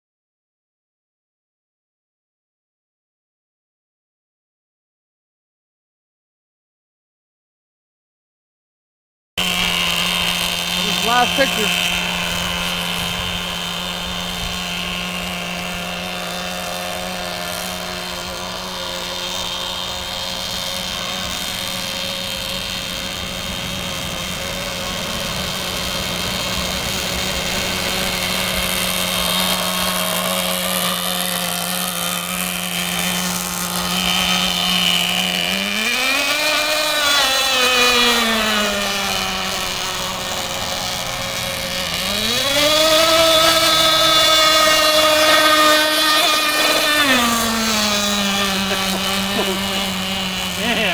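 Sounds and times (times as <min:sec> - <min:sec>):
small boat engine buzzing: 0:09.4 - 0:50.9.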